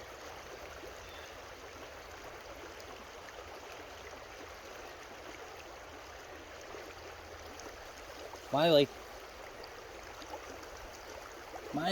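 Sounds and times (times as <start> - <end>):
creek water over rocks: 0.0 - 11.9.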